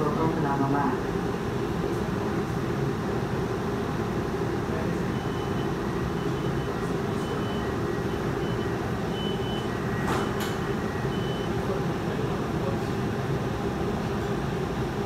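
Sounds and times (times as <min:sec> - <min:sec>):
streetcar running noise: 0:00.0 - 0:15.0.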